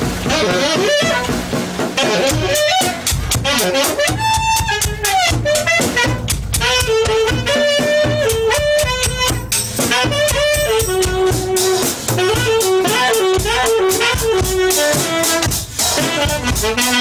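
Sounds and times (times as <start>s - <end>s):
drum kit and cymbals: 0.0s - 17.0s
wind instrument melody: 0.0s - 17.0s.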